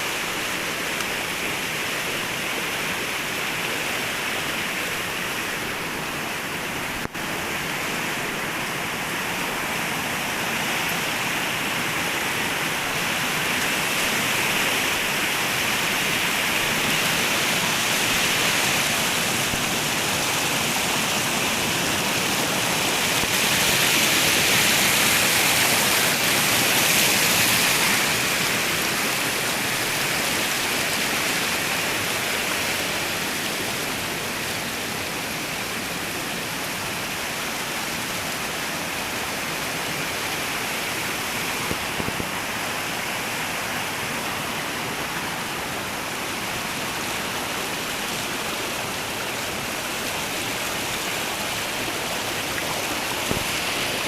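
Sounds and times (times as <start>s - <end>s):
water flowing steadily: 0.0s - 54.0s.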